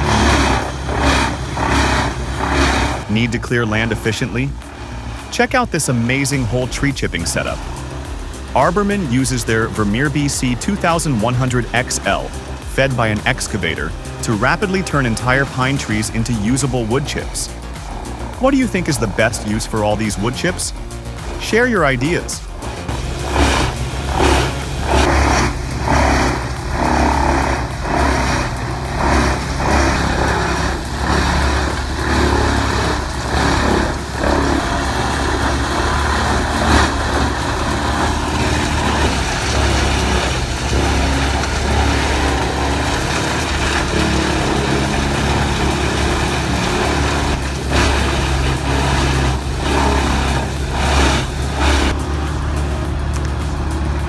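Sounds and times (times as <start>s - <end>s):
wood being chipped: 0.0s - 3.2s, 6.0s - 54.0s
wood chipper engine drone: 0.0s - 54.0s.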